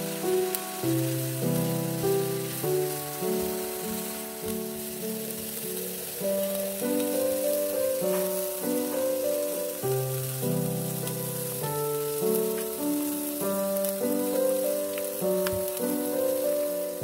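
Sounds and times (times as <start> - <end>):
background music of held notes: 0.0 - 17.0
onions sizzling in a frying pan: 0.0 - 17.0.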